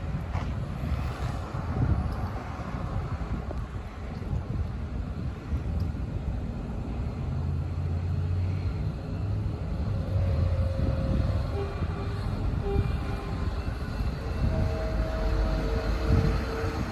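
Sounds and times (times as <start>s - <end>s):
vehicle engine rumble: 0.0s - 16.9s.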